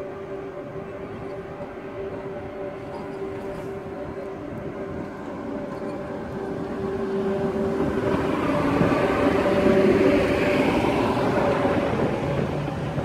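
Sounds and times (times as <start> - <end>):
electric locomotive tones: 0.0 - 13.0
wheels rumbling on rails: 0.0 - 13.0.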